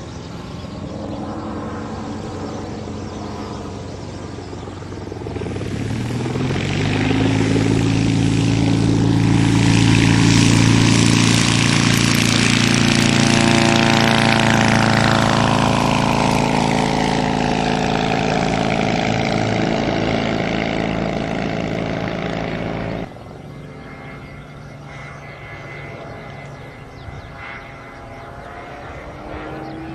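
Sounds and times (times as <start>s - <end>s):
propeller airplane flying past: 0.0s - 29.9s.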